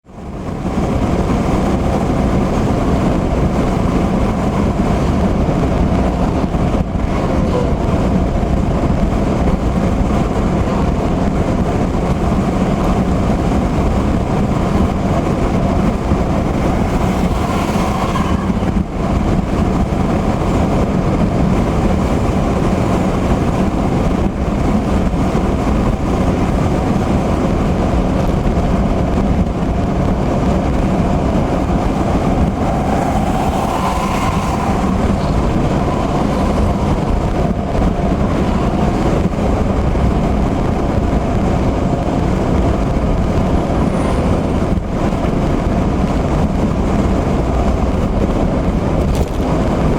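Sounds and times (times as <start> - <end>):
road and tyre noise: 0.0 - 49.9.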